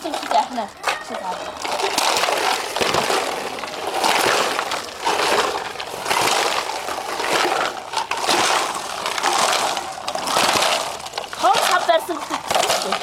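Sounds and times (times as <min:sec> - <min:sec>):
plastic bottle shakers rattling: 0:00.0 - 0:13.0.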